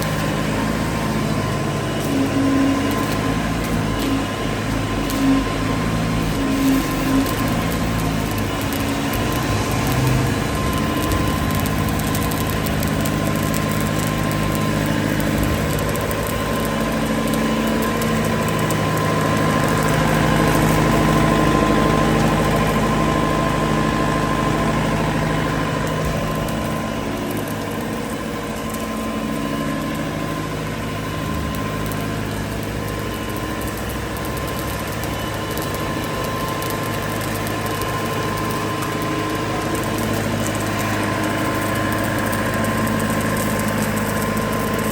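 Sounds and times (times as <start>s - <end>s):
diesel engine running: 0.0s - 44.9s
generator whine: 0.0s - 44.9s.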